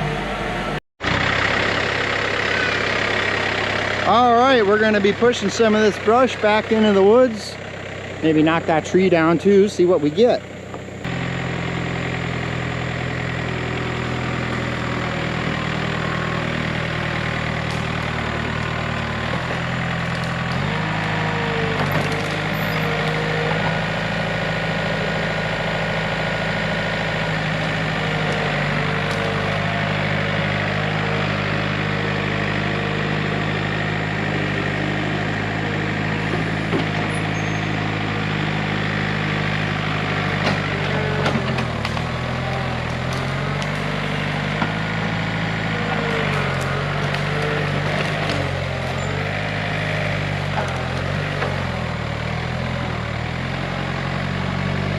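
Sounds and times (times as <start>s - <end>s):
backhoe diesel engine running: 0.0s - 54.9s.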